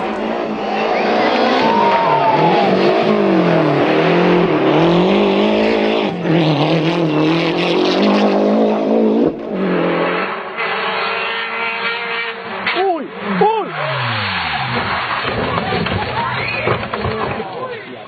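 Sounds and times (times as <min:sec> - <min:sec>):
rally car engine revving: 0:00.0 - 0:17.5.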